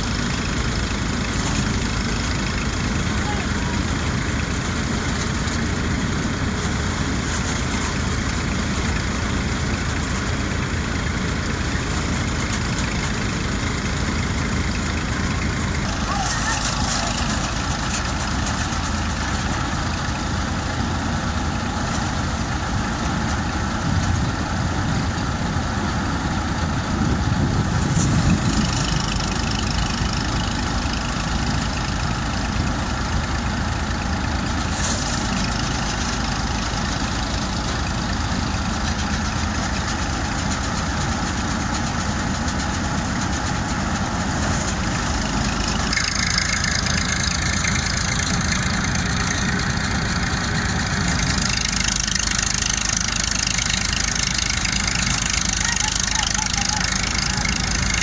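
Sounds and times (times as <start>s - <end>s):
threshing drum whirring and rattling: 0.0s - 58.0s
tractor diesel engine running: 0.0s - 58.0s.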